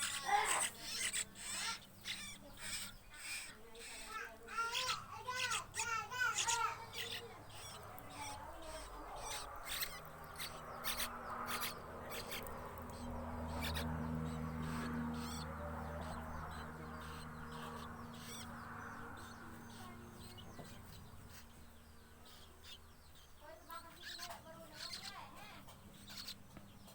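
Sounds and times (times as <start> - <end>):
fledgling begging chirps: 0.0 - 26.9.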